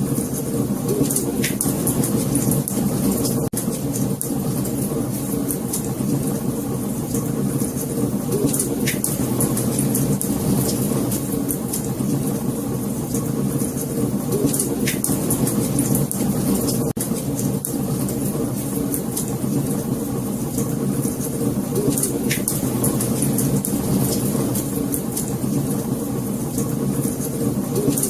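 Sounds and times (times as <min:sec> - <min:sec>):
fire burning with rushing flames: 0:00.0 - 0:28.0
fire crackling and popping: 0:00.0 - 0:28.0.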